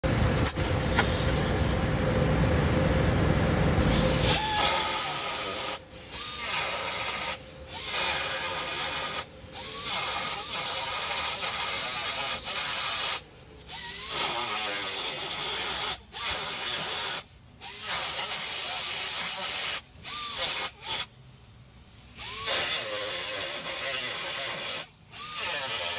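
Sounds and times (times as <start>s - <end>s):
pneumatic angle grinder grinding steel: 3.9s - 21.2s, 22.1s - 25.9s.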